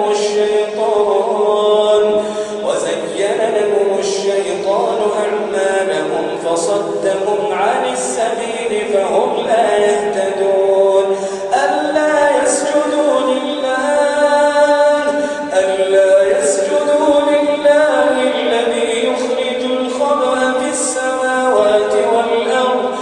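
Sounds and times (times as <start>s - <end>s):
man chanting melodically: 0.0s - 23.0s.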